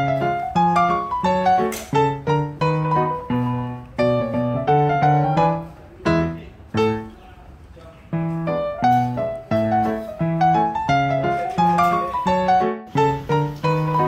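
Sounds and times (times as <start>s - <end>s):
slow piano melody: 0.0s - 7.3s, 8.1s - 14.0s.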